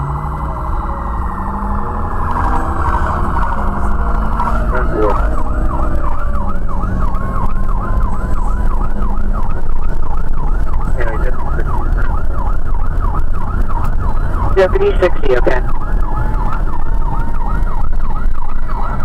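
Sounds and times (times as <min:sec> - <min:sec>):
car engine and road noise: 0:00.0 - 0:19.0
siren wailing and yelping: 0:00.0 - 0:19.0.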